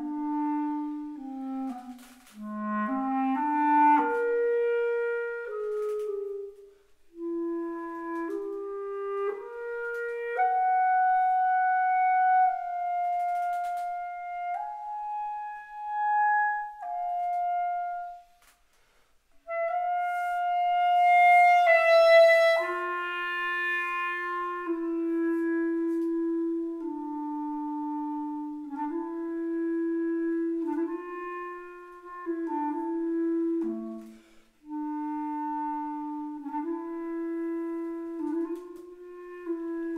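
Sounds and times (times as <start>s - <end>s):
solo clarinet melody: 0.0s - 39.9s.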